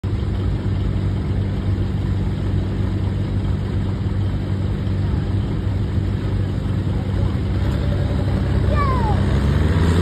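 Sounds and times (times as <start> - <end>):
tractor engine idling: 0.0 - 9.4.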